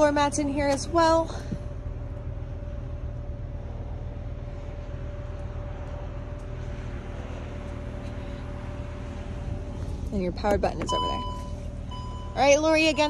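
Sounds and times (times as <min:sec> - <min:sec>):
constant whine: 0:00.0 - 0:13.0.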